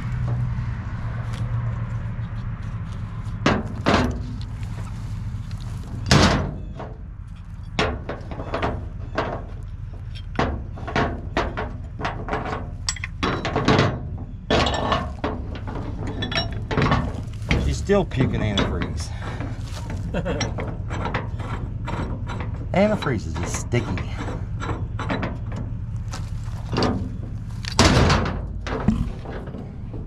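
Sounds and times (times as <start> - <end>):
low engine hum: 0.0 - 30.0
metal clanks of winch rigging: 3.4 - 30.0.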